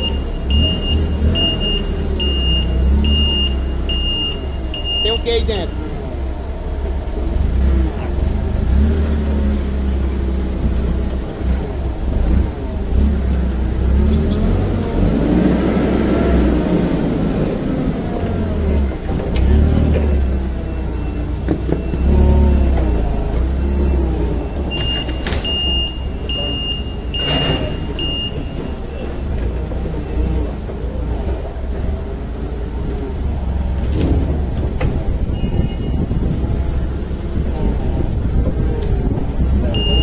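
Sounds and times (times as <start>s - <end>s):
forklift whine and rumble: 0.0s - 40.0s.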